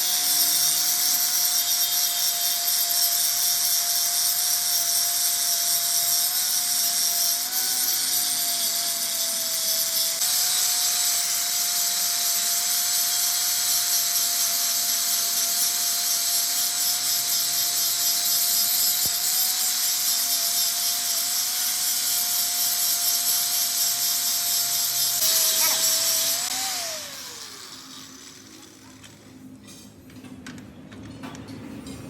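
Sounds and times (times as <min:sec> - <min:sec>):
power tool on metal: 0:00.0 - 0:29.8.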